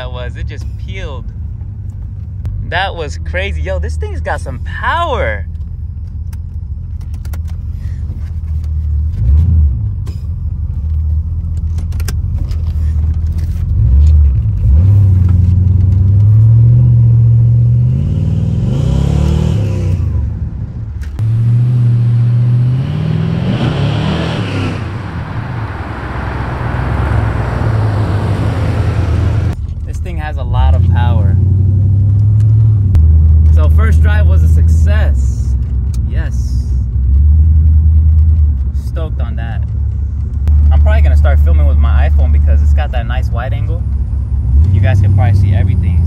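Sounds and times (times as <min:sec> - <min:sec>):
car engine accelerating: 0:08.2 - 0:46.0.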